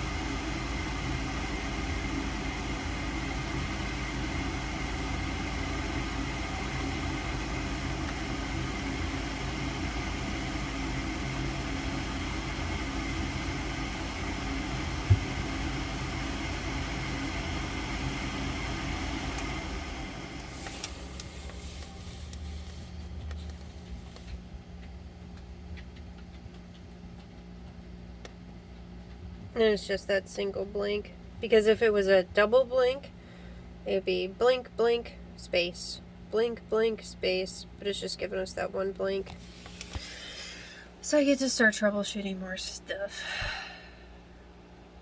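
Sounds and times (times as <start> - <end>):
furnace fan motor humming: 0.0 - 45.0.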